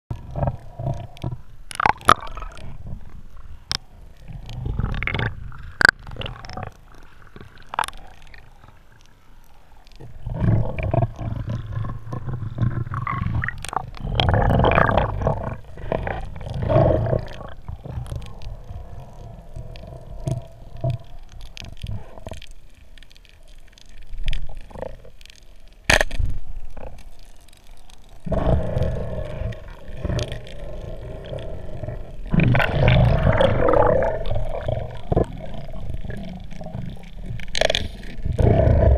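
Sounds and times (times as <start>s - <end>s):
water movement: 0.1s - 38.9s.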